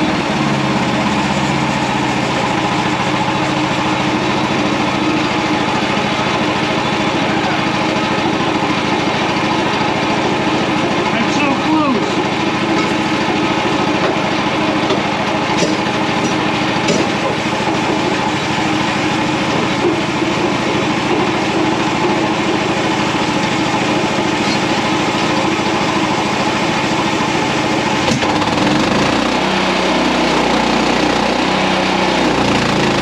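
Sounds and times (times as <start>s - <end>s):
small gas engine running: 0.0s - 33.0s.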